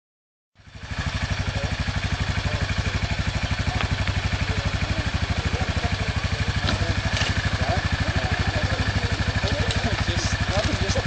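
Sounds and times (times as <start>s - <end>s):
engine idling putter: 0.6s - 11.0s.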